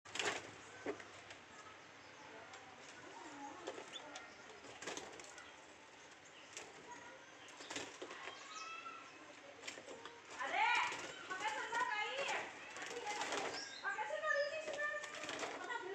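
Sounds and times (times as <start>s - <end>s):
wing flutters: 0.1s - 1.4s, 2.8s - 15.9s
bird chirps and calls: 1.5s - 15.9s.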